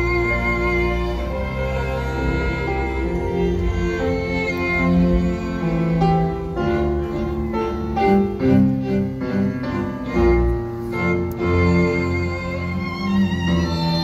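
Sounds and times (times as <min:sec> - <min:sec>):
bowed strings: 0:00.0 - 0:14.0
piano notes and chords: 0:00.0 - 0:14.0.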